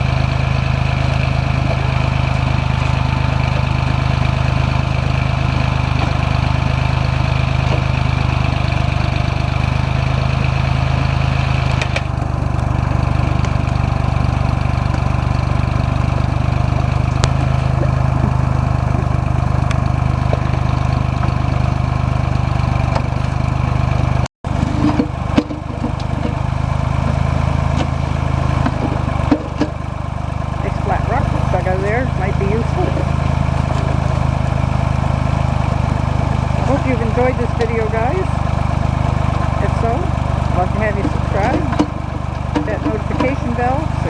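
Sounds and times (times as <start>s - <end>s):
engine knocks: 0.0s - 44.0s
tractor engine running: 0.0s - 44.0s.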